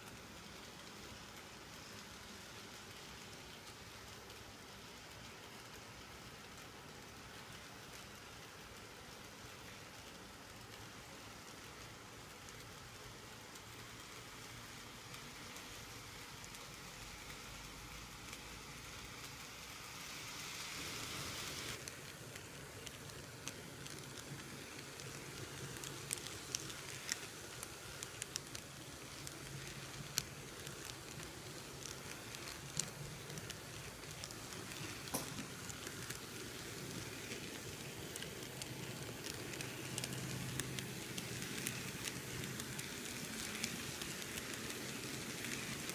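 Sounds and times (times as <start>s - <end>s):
soft hiss: 0.0s - 45.9s.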